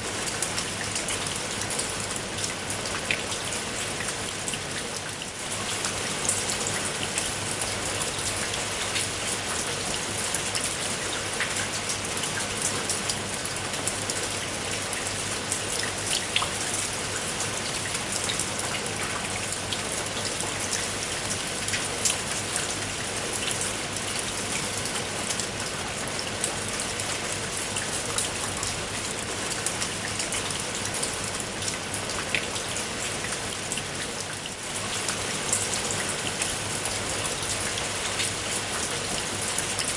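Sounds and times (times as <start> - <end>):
steady rain hiss: 0.0 - 39.8.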